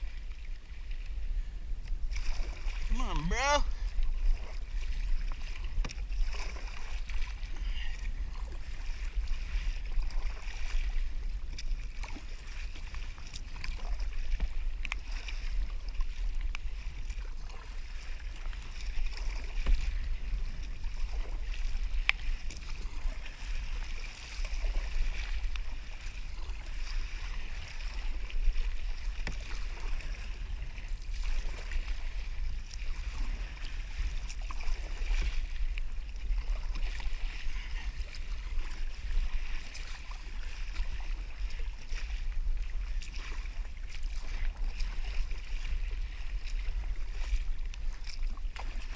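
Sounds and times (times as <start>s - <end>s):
water lapping against kayak hull: 0.0s - 48.9s.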